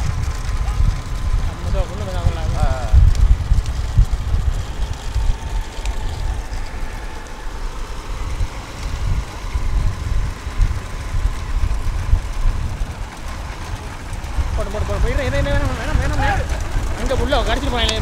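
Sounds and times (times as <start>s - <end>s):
moving vehicle rumble: 0.0s - 18.0s
wind on microphone: 0.0s - 18.0s.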